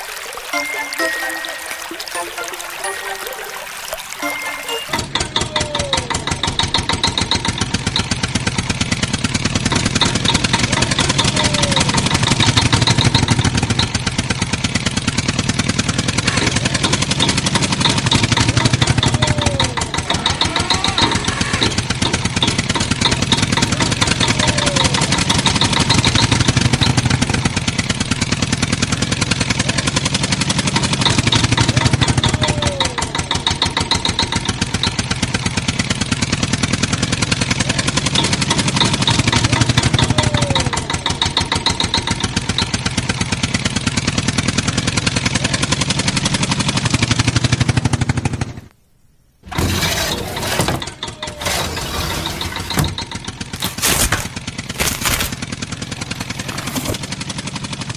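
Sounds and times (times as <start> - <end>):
engine running with even pulse: 4.1 - 48.7, 49.5 - 57.9.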